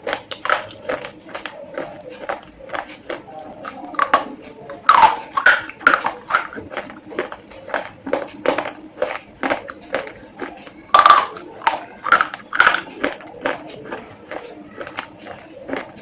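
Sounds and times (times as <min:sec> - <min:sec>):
person chewing crunchy pencils: 0:00.0 - 0:16.0.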